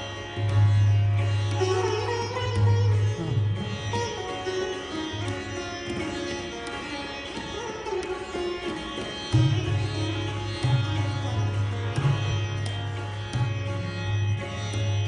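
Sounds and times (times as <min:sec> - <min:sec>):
sitar notes bending: 0:00.0 - 0:15.0.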